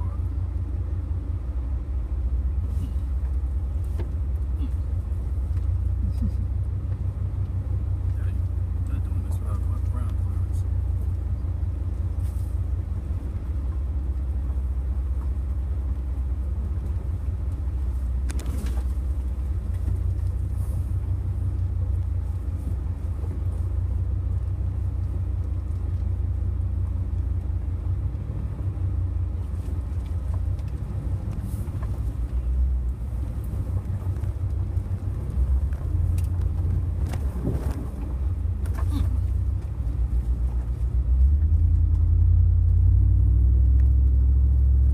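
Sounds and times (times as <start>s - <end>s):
truck engine rumble inside cab: 0.0s - 44.9s.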